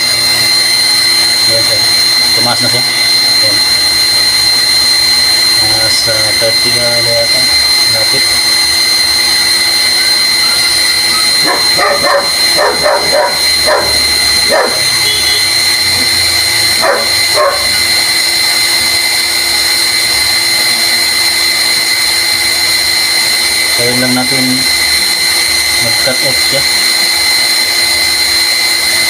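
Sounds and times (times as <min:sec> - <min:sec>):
electric water pump whining: 0:00.0 - 0:29.0.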